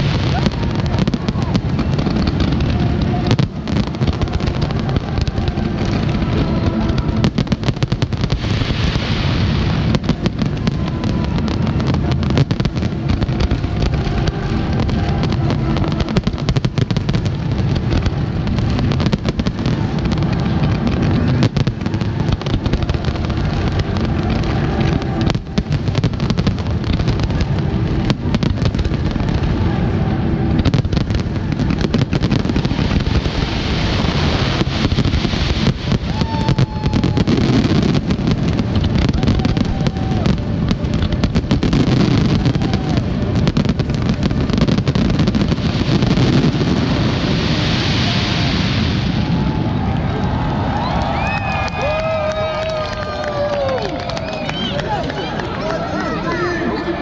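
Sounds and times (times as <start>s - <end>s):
constant rumble: 0.0s - 57.0s.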